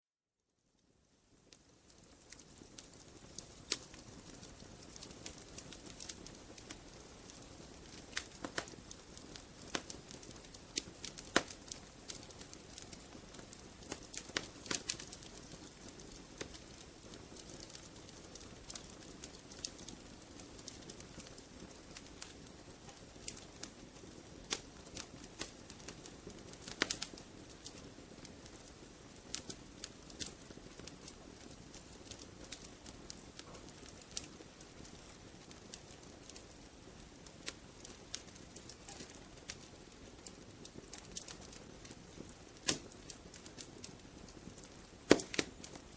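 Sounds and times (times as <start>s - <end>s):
wood fire popping and snapping: 0.8s - 45.9s.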